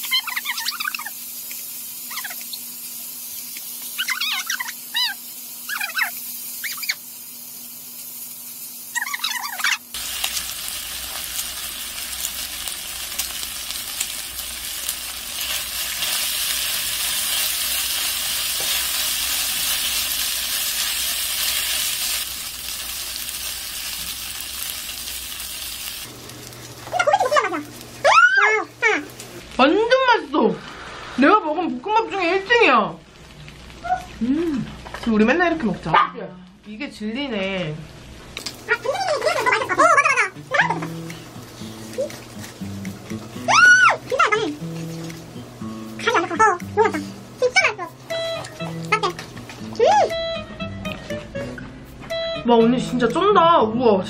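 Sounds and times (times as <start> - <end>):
rice sizzling in a frying pan: 0.0 - 35.8, 37.4 - 46.1.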